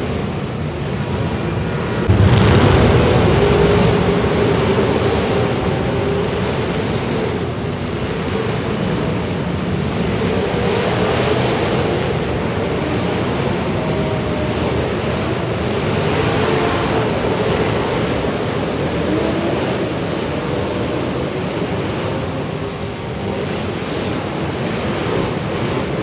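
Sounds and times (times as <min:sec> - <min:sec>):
car engines running hard: 0:00.0 - 0:26.0.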